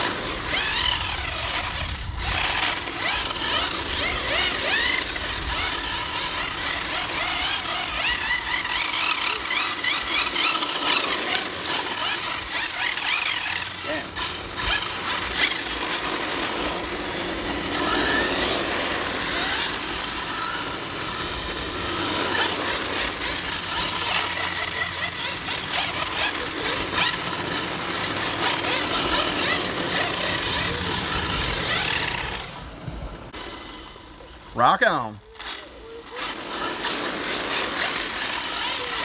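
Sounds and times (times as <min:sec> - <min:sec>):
electric motors whining: 0:00.0 - 0:34.5, 0:35.2 - 0:39.0.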